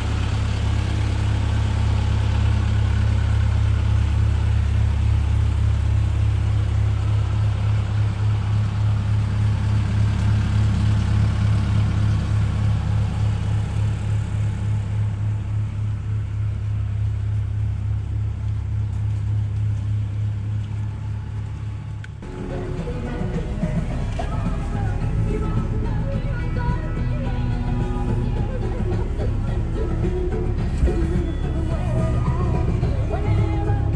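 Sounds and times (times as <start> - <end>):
excavator diesel engine humming: 0.0 - 33.9.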